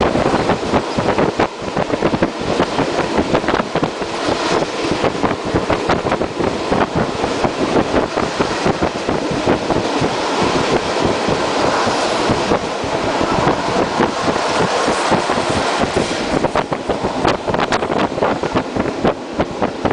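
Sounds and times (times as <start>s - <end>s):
train rattling and clatter: 0.0s - 19.9s
train rushing: 0.0s - 19.9s
wind buffeting microphone: 0.0s - 19.9s.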